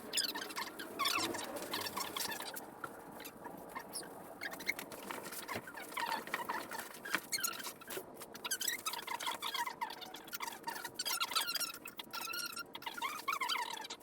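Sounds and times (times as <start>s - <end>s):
foam and cardboard squeaking: 0.1s - 14.0s.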